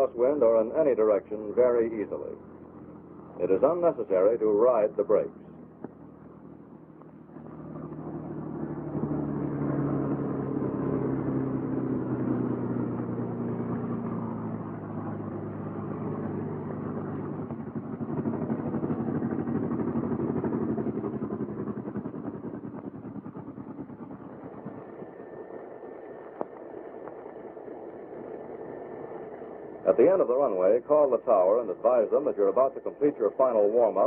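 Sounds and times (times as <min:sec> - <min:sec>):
aircraft engine low drone: 0:00.0 - 0:34.0.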